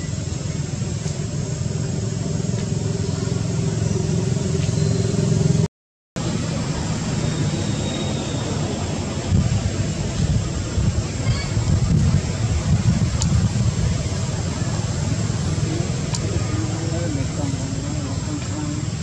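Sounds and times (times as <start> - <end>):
steady low rumble: 0.0 - 7.6, 8.4 - 19.0.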